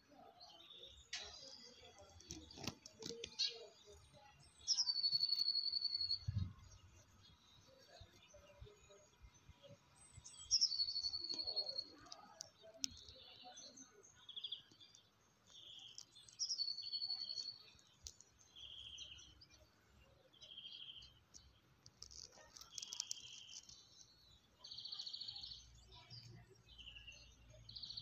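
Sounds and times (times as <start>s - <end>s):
bird chirps: 0.0s - 28.0s
trilled birdsong: 0.0s - 28.0s.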